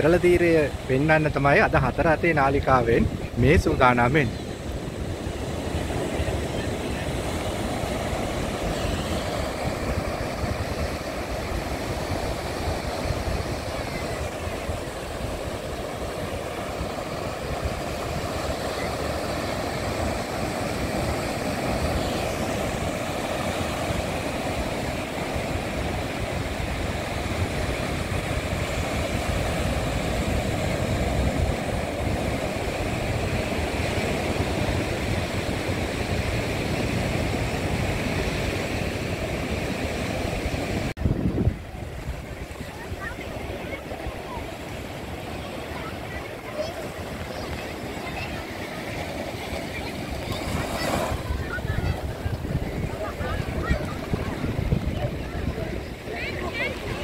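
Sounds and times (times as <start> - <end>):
ocean surf on sandy beach: 0.0 - 57.0.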